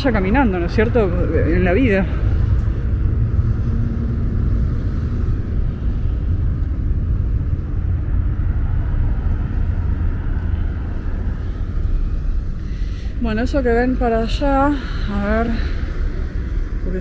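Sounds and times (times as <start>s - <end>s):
faint engine hum: 0.0s - 17.0s
road traffic rumble: 0.0s - 17.0s.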